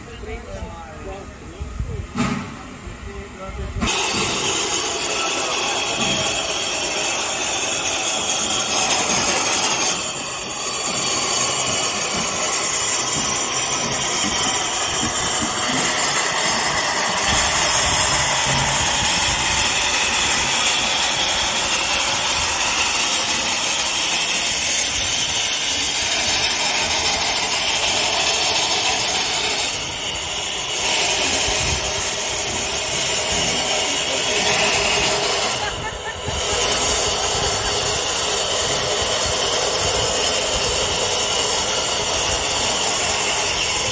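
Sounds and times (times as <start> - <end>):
steam hissing from locomotive: 0.0 - 43.9.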